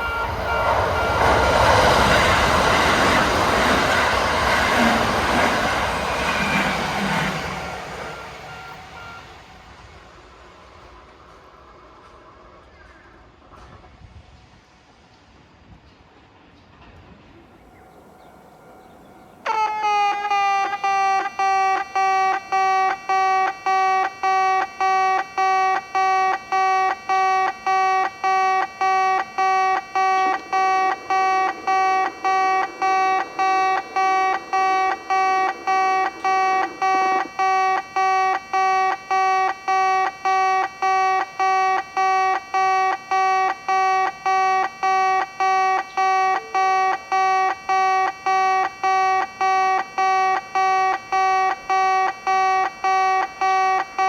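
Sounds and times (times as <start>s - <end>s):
electronic level crossing alarm: 0.0s - 9.4s, 18.6s - 54.0s.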